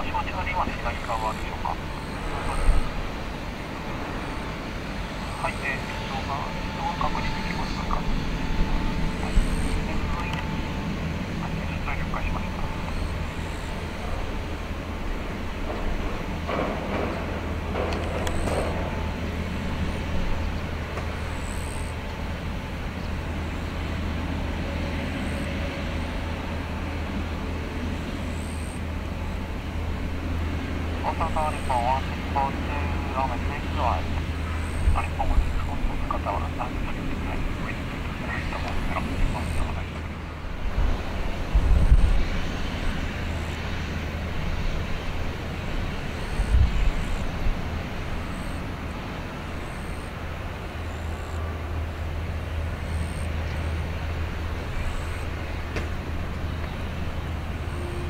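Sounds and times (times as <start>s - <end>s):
airplane taxiing rumble: 0.0s - 58.0s.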